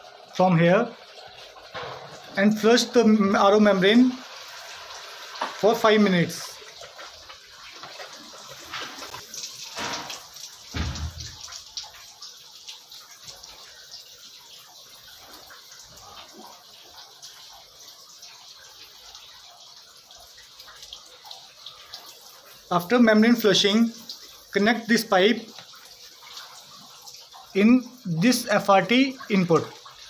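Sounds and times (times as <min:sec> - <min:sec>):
water running from tubing: 0:00.0 - 0:30.0.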